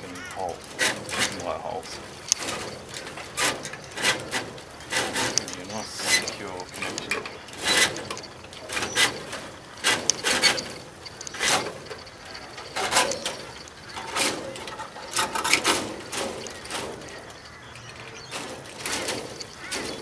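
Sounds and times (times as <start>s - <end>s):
wire mesh scraping against tube: 0.1s - 20.0s.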